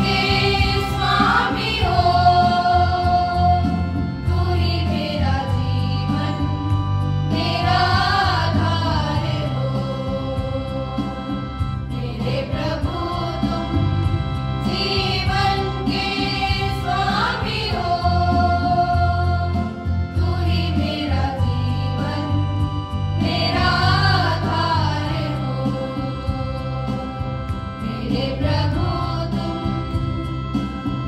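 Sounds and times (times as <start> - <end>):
sustained instrumental accompaniment: 0.0 - 31.0
women singing a hymn: 0.0 - 31.0.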